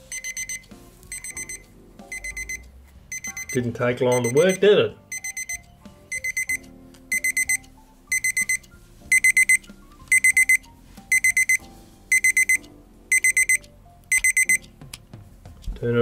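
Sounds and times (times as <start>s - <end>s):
alarm clock beeping: 0.0s - 14.8s.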